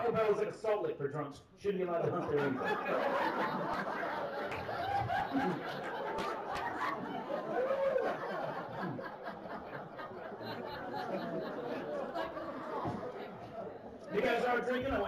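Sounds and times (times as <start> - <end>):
audience laughing: 2.0 - 14.6.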